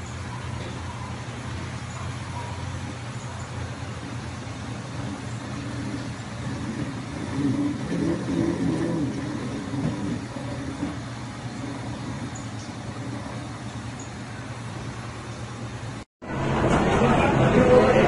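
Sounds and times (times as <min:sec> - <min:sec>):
dough mixer motor humming: 0:00.0 - 0:16.0.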